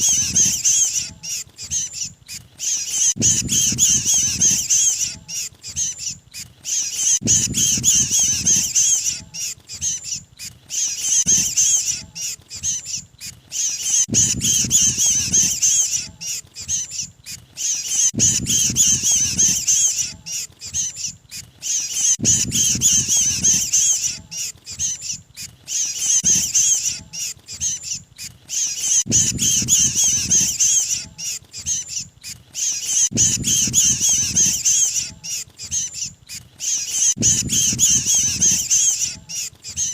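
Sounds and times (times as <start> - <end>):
birds chattering distress call: 0.0 - 39.9.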